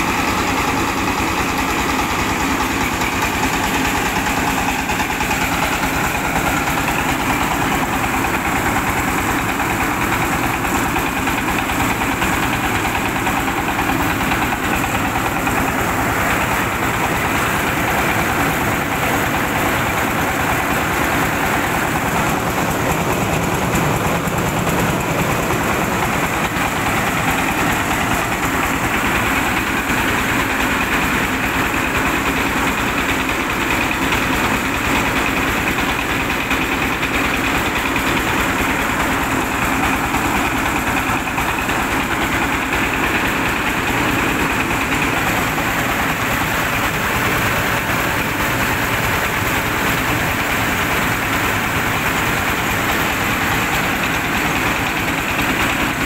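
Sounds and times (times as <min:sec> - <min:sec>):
grain pouring from chute: 0:00.0 - 0:56.0
rice milling machine running: 0:00.0 - 0:56.0.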